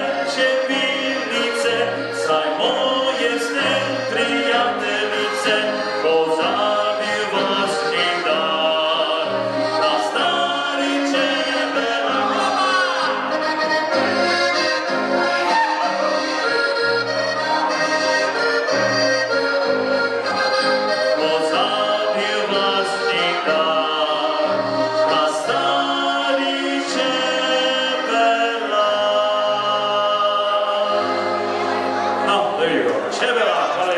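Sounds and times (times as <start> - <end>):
accordion: 0.0 - 33.9.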